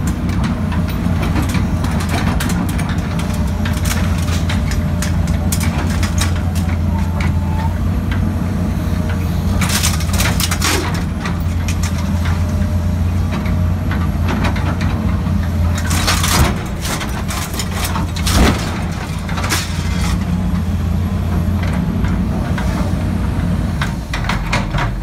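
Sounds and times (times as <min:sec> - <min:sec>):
clanking and crunching debris: 0:00.0 - 0:08.3, 0:09.0 - 0:22.8
diesel engine running: 0:00.0 - 0:25.0.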